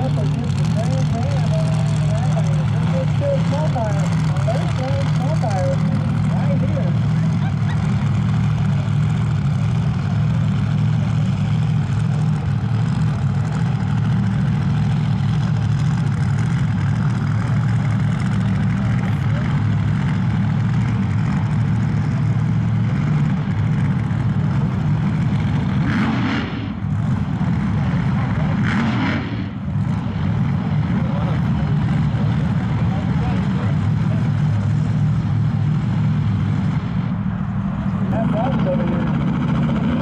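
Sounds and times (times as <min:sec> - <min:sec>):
race car engine idling: 0:00.0 - 0:40.0.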